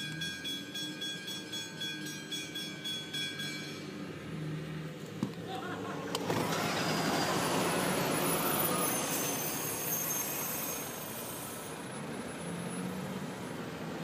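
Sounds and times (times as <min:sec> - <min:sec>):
truck driving past: 0:00.0 - 0:14.0.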